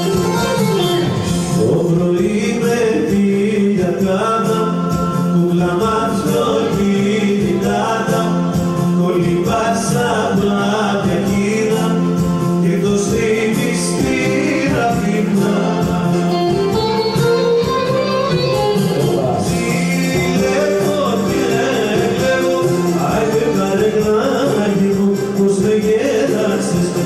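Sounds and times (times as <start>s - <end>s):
keyboard accompaniment: 0.0s - 27.0s
man singing into a microphone: 1.2s - 17.6s, 18.3s - 27.0s.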